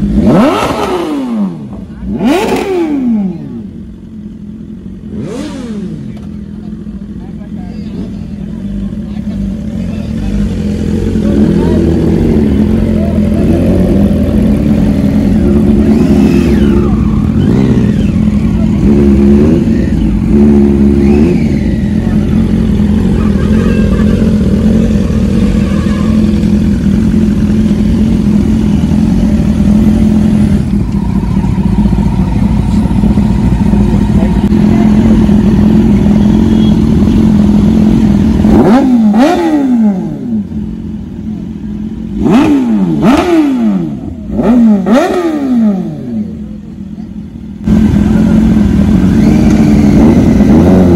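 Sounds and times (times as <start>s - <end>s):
motorcycle engines idling: 0.0s - 50.9s
motorcycle throttle revs: 0.0s - 50.9s.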